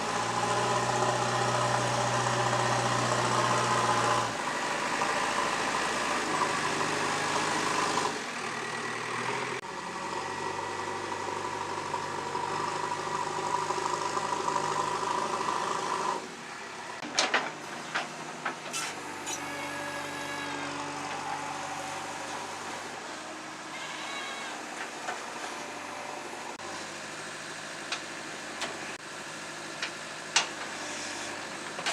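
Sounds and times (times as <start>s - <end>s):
backhoe engine running: 0.0s - 31.9s.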